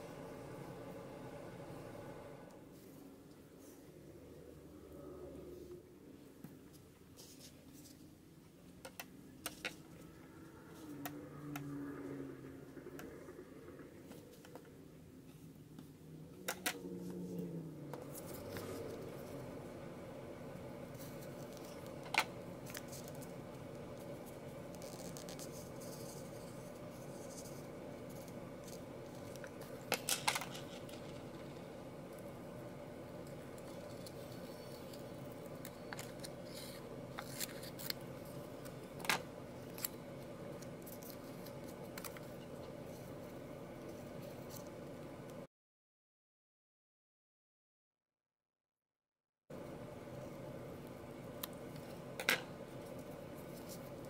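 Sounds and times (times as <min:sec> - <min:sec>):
low steady hum: 0:00.0 - 0:45.5, 0:49.5 - 0:54.0.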